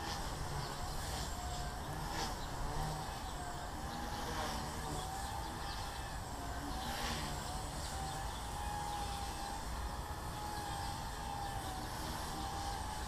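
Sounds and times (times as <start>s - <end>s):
rc helicopter rotor whining: 0.0s - 13.0s.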